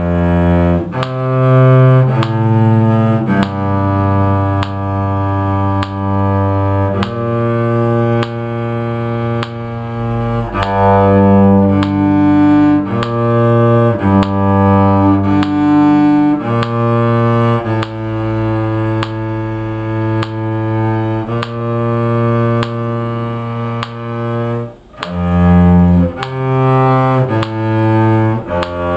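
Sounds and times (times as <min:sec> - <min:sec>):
bowed strings sustained notes: 0:00.0 - 0:28.9
cello low notes: 0:00.0 - 0:28.9
thin sharp clicks: 0:00.8 - 0:19.5, 0:20.1 - 0:28.9.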